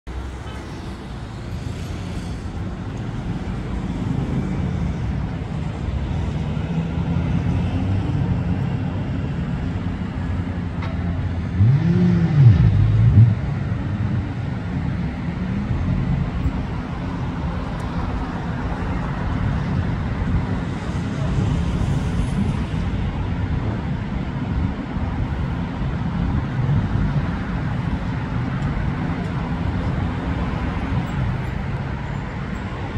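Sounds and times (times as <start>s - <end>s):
sports car engines rumbling: 0.1s - 32.9s.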